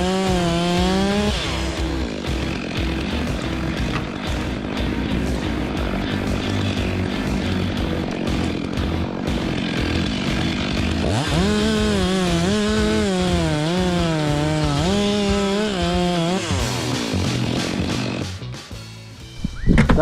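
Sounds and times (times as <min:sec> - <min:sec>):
chainsaw idling and cutting: 0:00.0 - 0:18.8.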